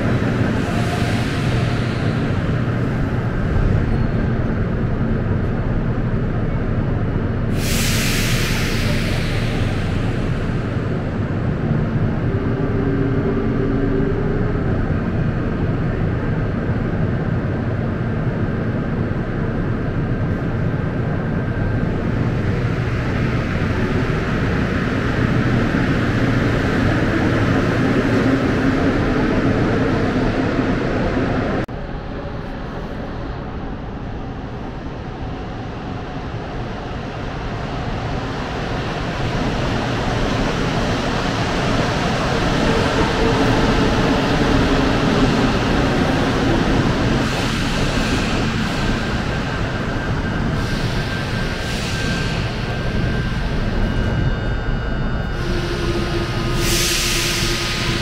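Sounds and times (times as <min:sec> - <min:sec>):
train approaching: 0:00.0 - 0:58.0
train rumbling: 0:00.0 - 0:58.0.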